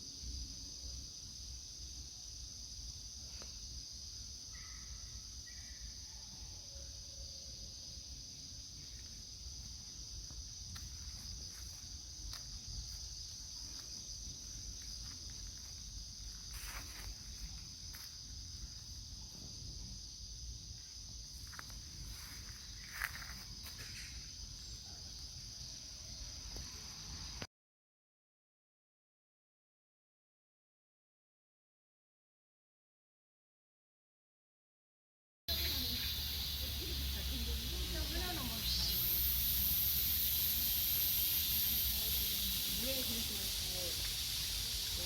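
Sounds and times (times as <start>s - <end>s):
insects trilling: 0.0s - 27.5s, 35.5s - 45.0s.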